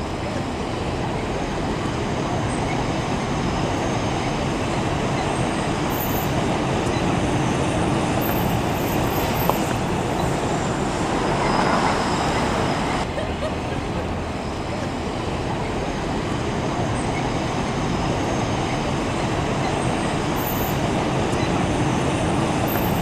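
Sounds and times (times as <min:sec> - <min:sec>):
road traffic: 0:00.0 - 0:23.0
train wheels rumbling on rail: 0:00.0 - 0:23.0.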